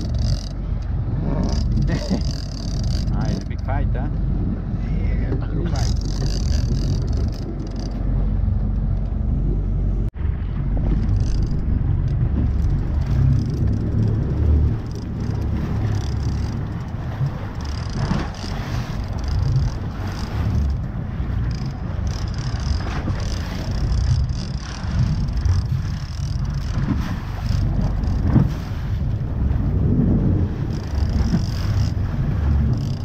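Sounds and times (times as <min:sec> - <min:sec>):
low boat rumble: 0:00.0 - 0:33.0.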